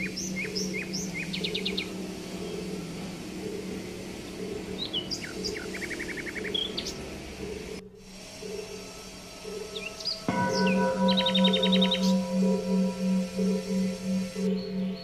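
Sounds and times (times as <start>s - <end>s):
bird trills: 0.0s - 7.6s, 8.4s - 15.0s
small birds chirping: 0.0s - 15.0s
steady low hum: 0.0s - 15.0s.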